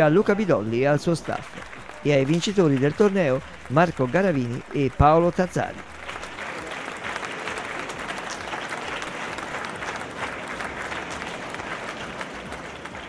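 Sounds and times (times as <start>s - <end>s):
spectators applauding: 0.0s - 13.0s.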